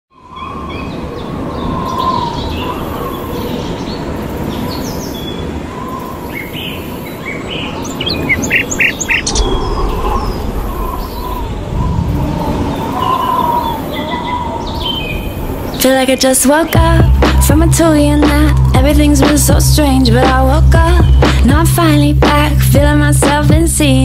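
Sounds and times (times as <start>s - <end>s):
birds chirping: 0.2s - 22.0s
low rushing outdoor ambience: 0.2s - 24.0s.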